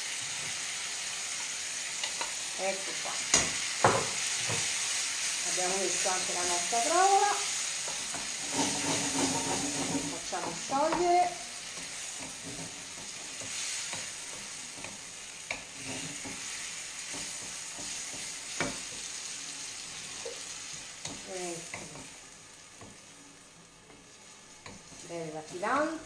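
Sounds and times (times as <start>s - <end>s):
ravioli sizzling in a frying pan: 0.0s - 26.0s.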